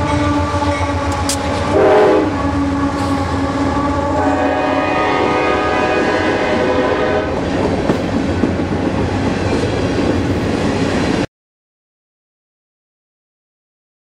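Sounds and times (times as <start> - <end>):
train wheels rumbling and clattering: 0.0 - 11.3.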